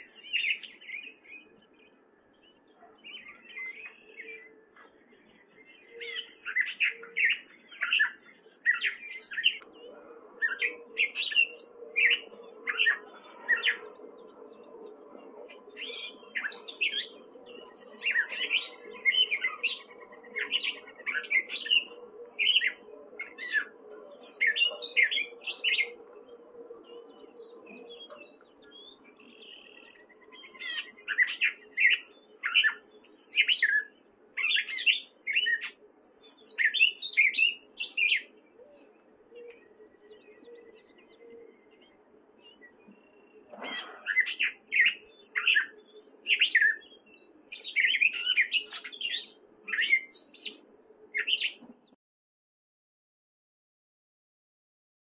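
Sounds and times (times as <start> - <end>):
catbird singing: 0.0 - 51.9.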